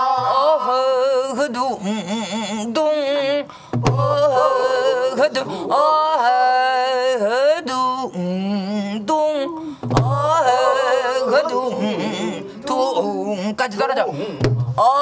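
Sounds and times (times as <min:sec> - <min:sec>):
woman singing folk song: 0:00.0 - 0:15.0.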